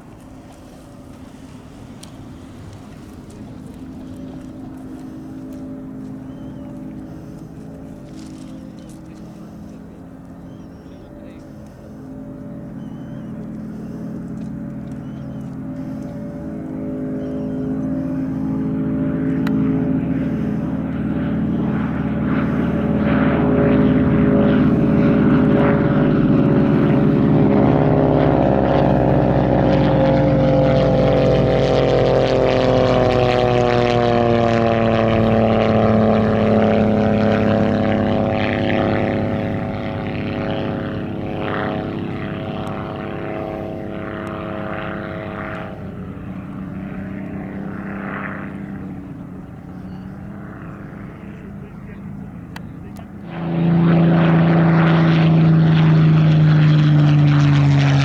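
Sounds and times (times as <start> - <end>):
propeller airplane flying past: 0.0 - 58.0.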